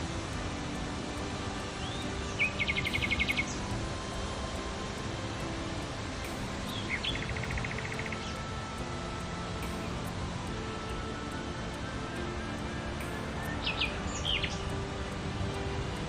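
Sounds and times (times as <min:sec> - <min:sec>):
songbird singing: 0:00.0 - 0:16.0
steady outdoor hiss: 0:00.0 - 0:16.0.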